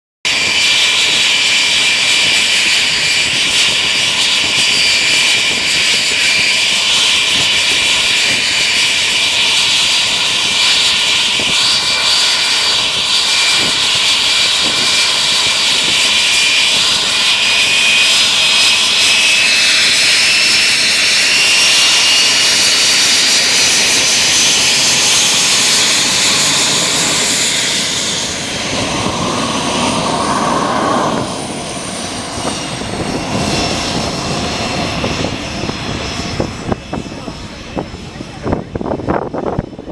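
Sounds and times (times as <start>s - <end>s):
jet engine whine and roar: 0.3s - 39.9s.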